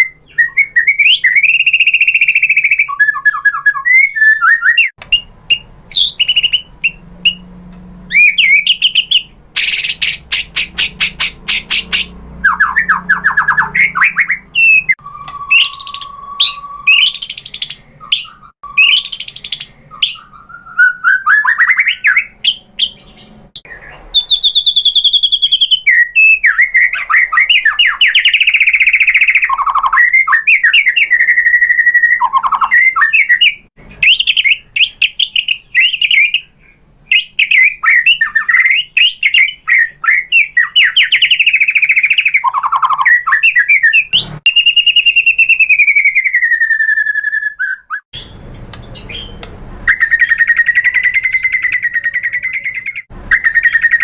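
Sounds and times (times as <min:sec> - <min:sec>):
songbird singing trills and whistles: 0:00.0 - 0:07.5, 0:08.1 - 0:54.0.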